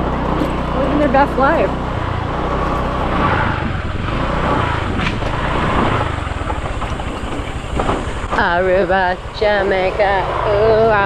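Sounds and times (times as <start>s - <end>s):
motorbike engine running: 0.0s - 11.0s
wind and road noise: 0.0s - 11.0s.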